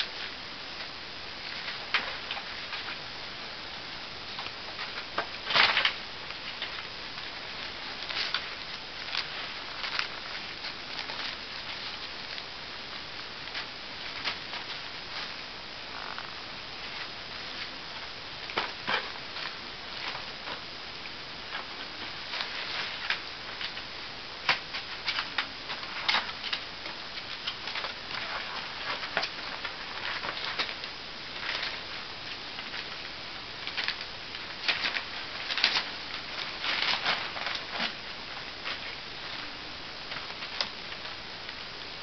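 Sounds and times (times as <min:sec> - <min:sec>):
wrapping paper crinkling: 0:04.3 - 0:41.9.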